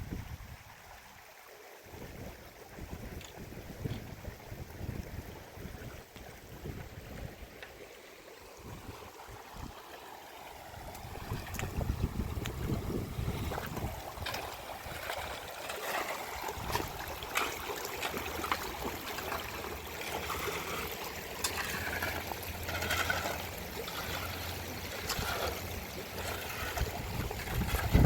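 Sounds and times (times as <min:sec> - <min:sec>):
water trickling: 0:00.1 - 0:28.0.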